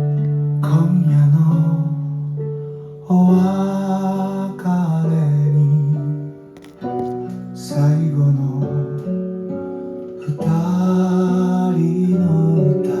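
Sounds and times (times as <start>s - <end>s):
guitar-led song from a record: 0.0s - 13.0s.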